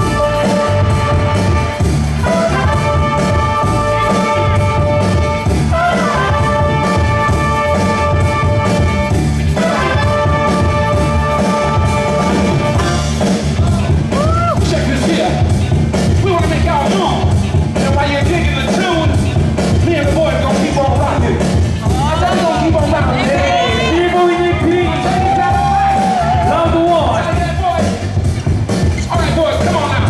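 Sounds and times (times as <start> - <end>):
heavy bass beat: 0.0 - 30.0.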